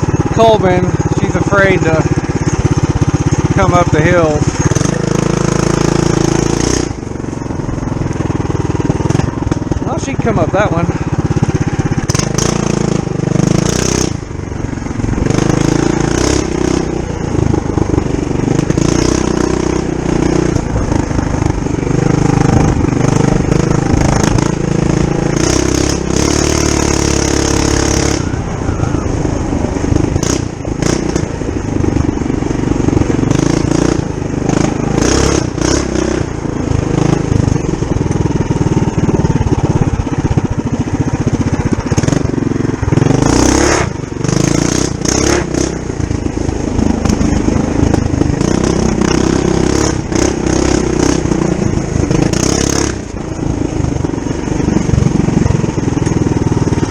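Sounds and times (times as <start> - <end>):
mini bike engine under load: 0.0 - 56.9.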